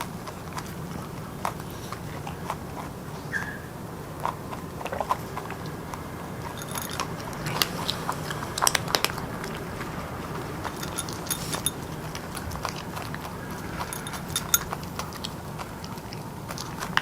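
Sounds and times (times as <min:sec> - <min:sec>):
pet crunching and chewing food: 0:00.0 - 0:17.0.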